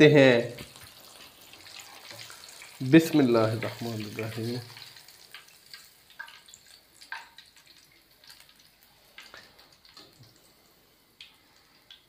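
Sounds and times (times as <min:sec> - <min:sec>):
oil dripping into pan: 0:00.6 - 0:12.0.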